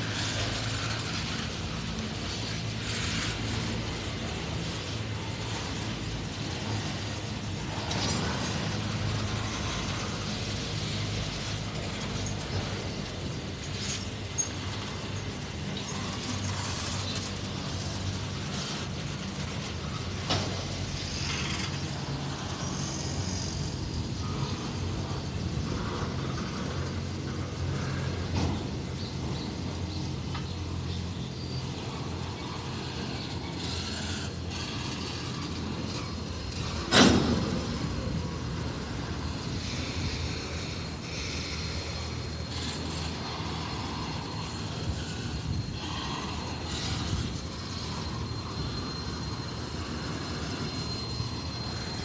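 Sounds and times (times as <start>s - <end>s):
diesel locomotive engines running: 0.0s - 52.0s
metallic clanks from train: 0.0s - 52.0s.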